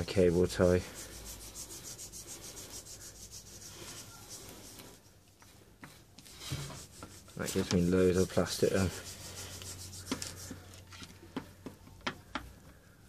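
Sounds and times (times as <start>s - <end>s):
scratchy rubbing on plastic: 0.0s - 11.4s.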